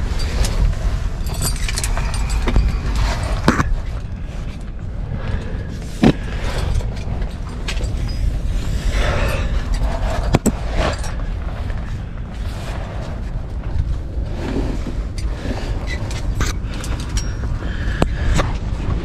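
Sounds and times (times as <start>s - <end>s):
gear scraping against rock: 0.0s - 19.0s
wind rumble on microphone: 0.0s - 19.0s.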